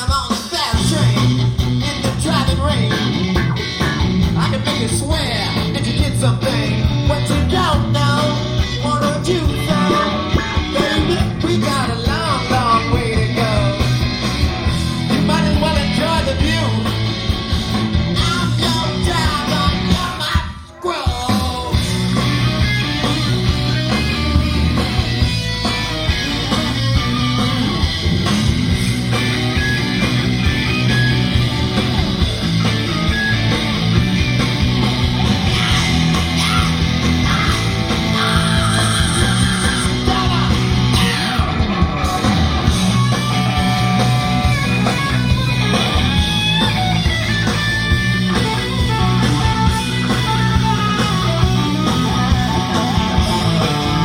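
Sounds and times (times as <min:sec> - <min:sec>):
electric guitar: 0:00.0 - 0:54.0
live rock band playing: 0:00.0 - 0:54.0.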